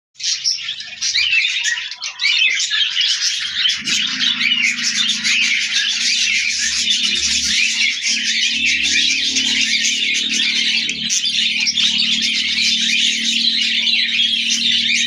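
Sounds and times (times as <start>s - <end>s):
budgerigars chattering: 0.2s - 15.0s.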